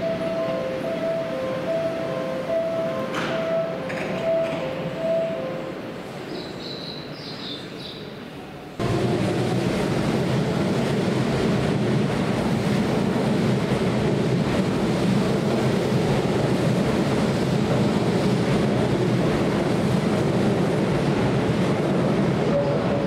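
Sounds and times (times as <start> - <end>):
train wheels rumbling on rail: 0.0 - 6.6, 8.8 - 23.0.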